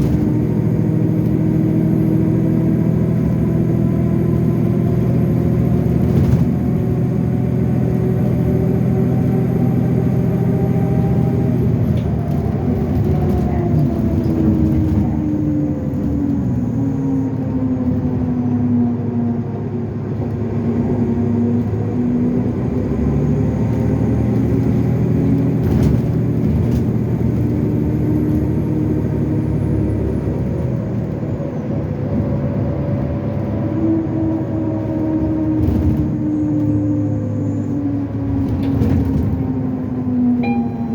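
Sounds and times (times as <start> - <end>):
bus engine: 0.0 - 40.9.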